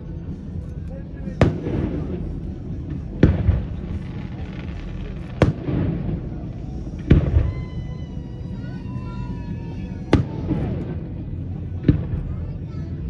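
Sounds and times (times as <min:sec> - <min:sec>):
low rumbling echo: 0:00.0 - 0:13.0
fireworks bangs: 0:01.2 - 0:12.7.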